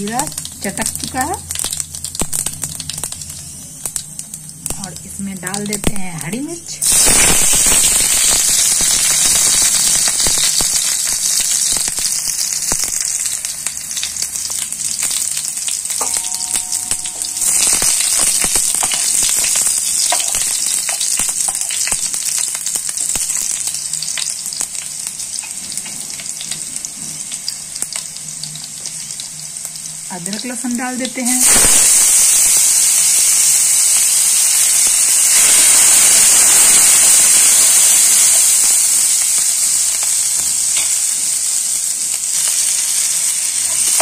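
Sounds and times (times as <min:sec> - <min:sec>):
seeds sizzling in hot oil: 0:00.0 - 0:44.0.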